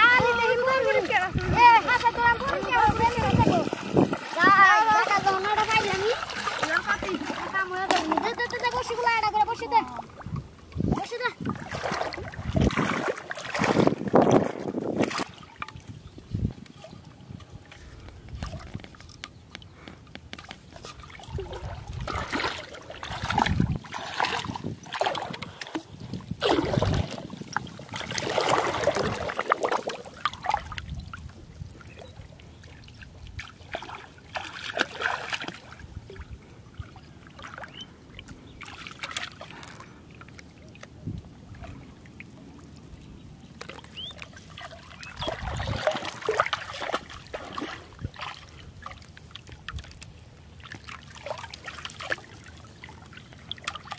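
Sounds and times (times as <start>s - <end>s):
wading through shallow water: 0.0s - 53.9s.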